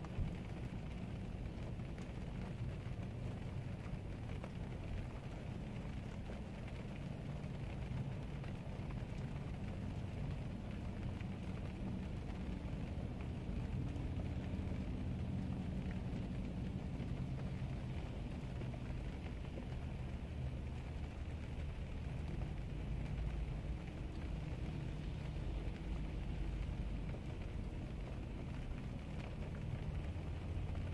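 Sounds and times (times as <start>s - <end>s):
low vehicle rumble: 0.0s - 30.9s
steady rain: 0.0s - 30.9s.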